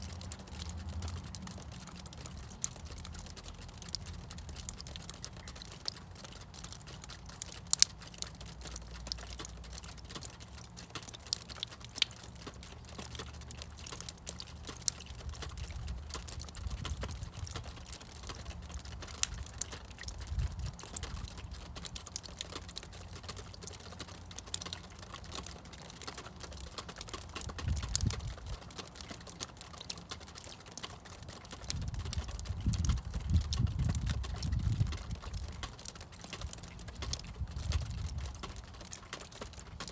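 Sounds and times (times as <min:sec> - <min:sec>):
meltwater dripping: 0:00.0 - 0:39.9.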